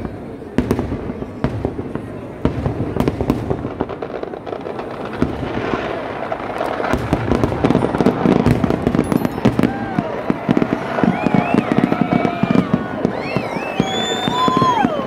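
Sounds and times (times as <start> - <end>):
firecrackers crackling: 0.0 - 15.0
fireworks bangs: 0.0 - 15.0.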